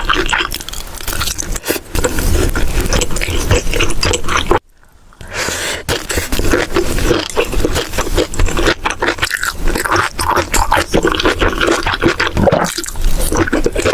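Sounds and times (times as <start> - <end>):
close chewing of food: 0.0 - 4.6, 5.5 - 13.9.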